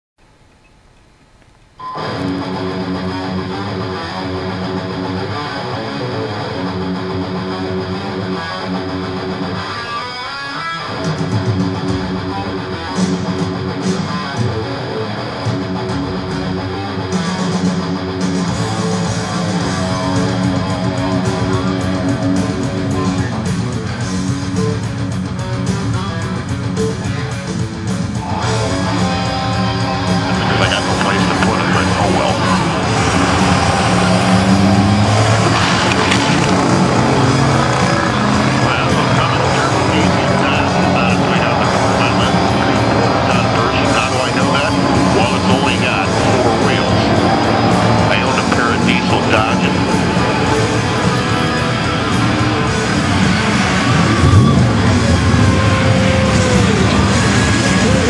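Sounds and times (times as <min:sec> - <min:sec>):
guitar background music: 0:01.8 - 0:58.0.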